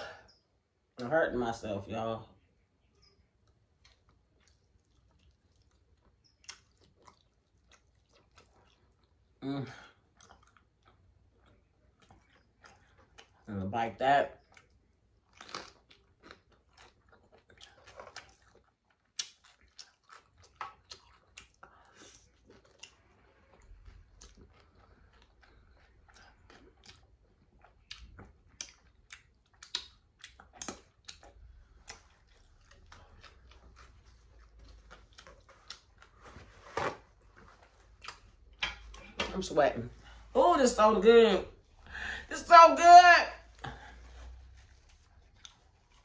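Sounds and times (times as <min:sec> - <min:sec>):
person chewing food: 0:02.9 - 0:13.5, 0:14.3 - 0:39.3, 0:43.5 - 0:46.0.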